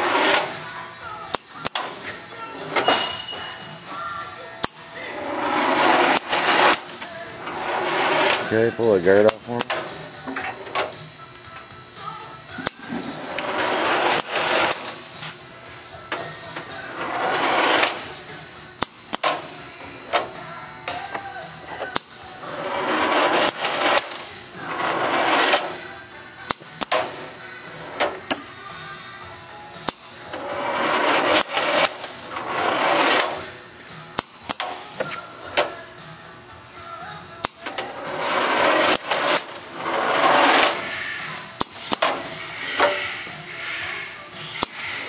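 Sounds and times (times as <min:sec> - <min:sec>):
pneumatic hissing: 0:00.0 - 0:11.2, 0:12.0 - 0:36.2, 0:36.8 - 0:45.0.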